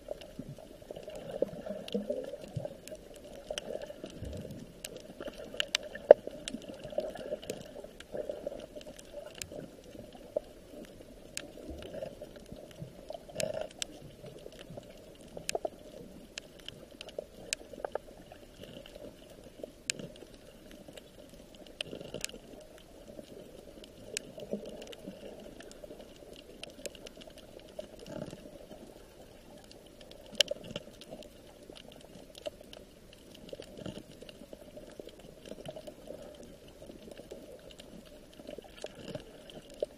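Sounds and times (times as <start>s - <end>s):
water bubbling: 0.0s - 39.9s.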